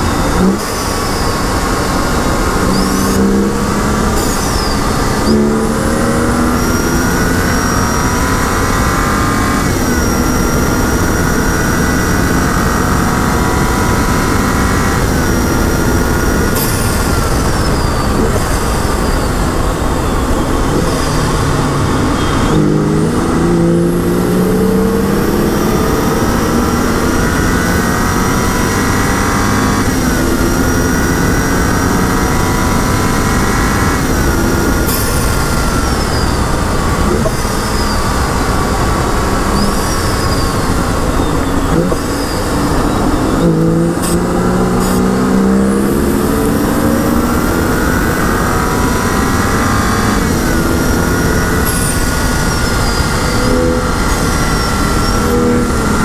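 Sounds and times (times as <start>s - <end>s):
car engine accelerating: 0.0s - 56.0s
gear upshifts: 0.0s - 56.0s
wind and tyre noise: 0.0s - 56.0s.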